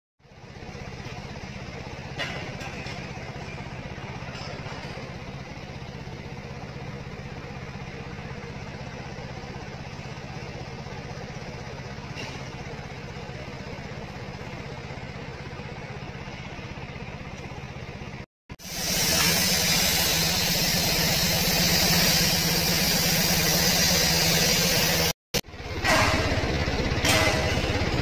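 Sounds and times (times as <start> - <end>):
truck engine idling: 0.2 - 28.0.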